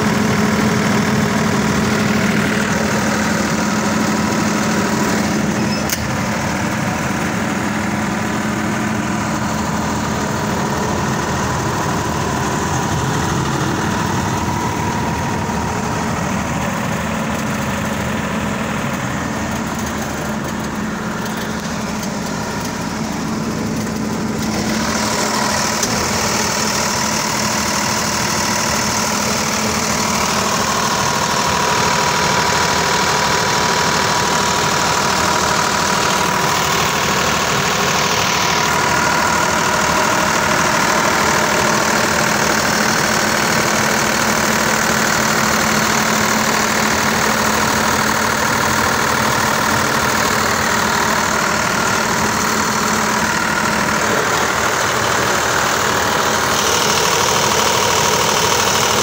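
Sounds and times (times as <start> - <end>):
diesel generator running: 0.0 - 59.0.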